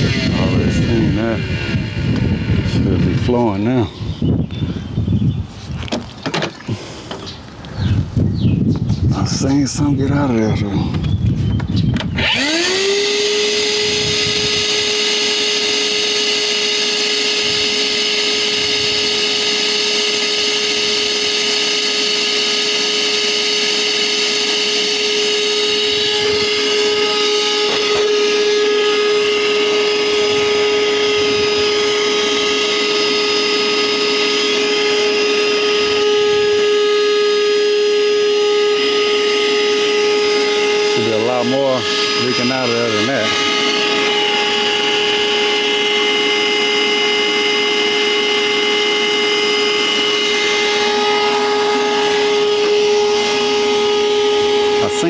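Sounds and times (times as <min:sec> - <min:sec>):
electric power tool motor: 0:00.0 - 0:04.8, 0:12.0 - 0:55.0.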